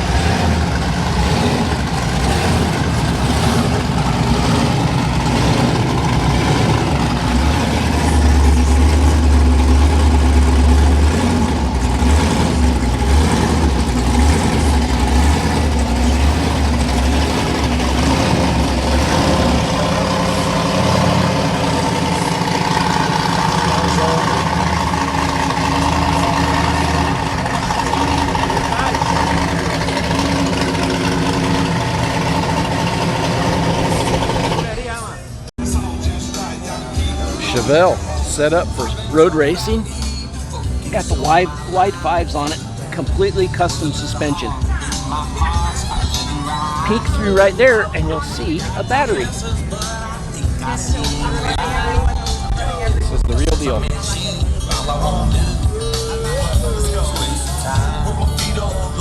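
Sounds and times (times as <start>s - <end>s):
drag car engines idling: 0.0s - 59.0s.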